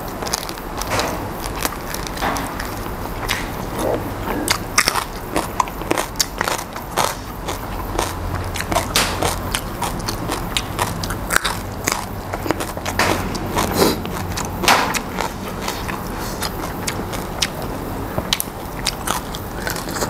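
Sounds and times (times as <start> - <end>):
person chewing crunchy vegetables: 0.0 - 20.0
wet mouth clicks: 1.6 - 20.0.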